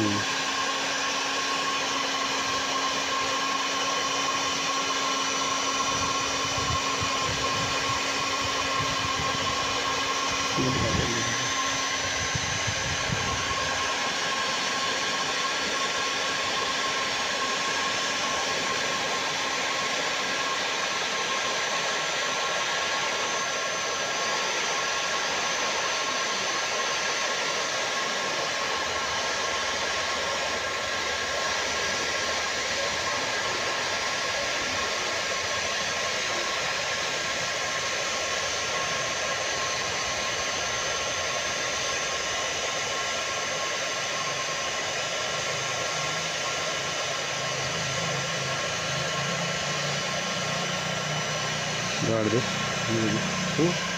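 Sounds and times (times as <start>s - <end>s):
hot air gun blowing: 0.0s - 53.9s.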